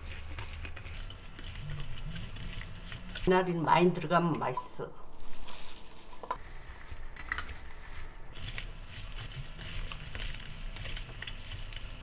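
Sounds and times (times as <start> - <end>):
hands tossing food in a bowl: 0.0 - 3.3, 5.2 - 12.0
wet squishing and rustling: 0.0 - 3.4, 5.1 - 12.0.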